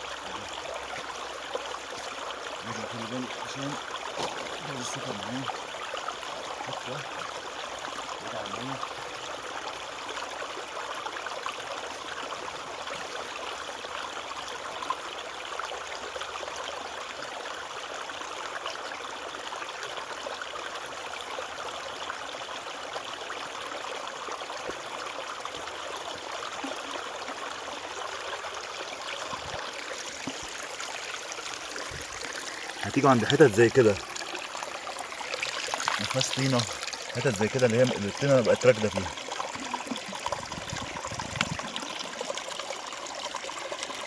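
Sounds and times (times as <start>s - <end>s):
stream flowing over stones: 0.0s - 44.0s.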